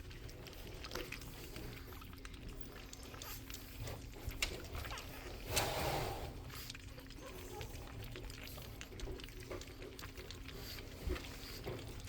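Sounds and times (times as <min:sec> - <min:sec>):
puppies grunting and smacking: 0:00.0 - 0:12.0.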